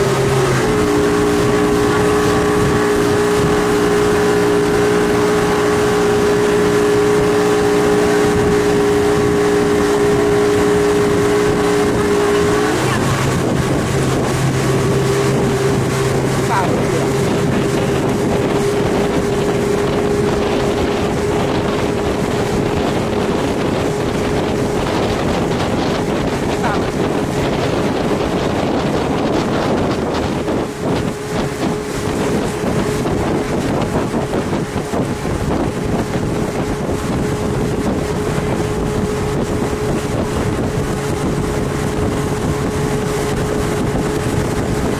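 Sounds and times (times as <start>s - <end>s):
speedboat engine running: 0.0s - 44.9s
water noise: 0.0s - 44.9s
wind rushing over microphone: 0.0s - 44.9s.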